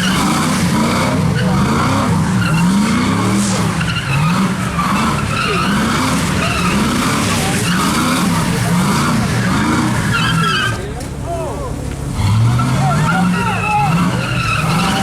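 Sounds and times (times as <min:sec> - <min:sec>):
car engine revving: 0:00.0 - 0:10.9, 0:11.8 - 0:15.0
tyres squealing and skidding: 0:00.0 - 0:15.0.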